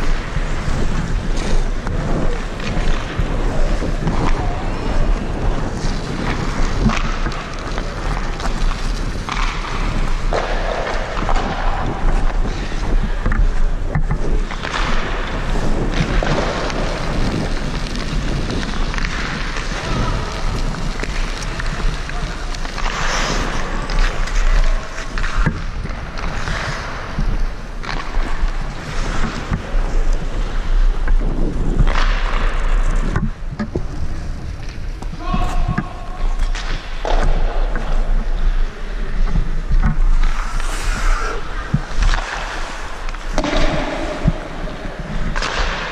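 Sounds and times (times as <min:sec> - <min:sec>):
skate blades scraping ice: 0:00.0 - 0:45.9
wind rumbling on microphone: 0:00.0 - 0:45.9.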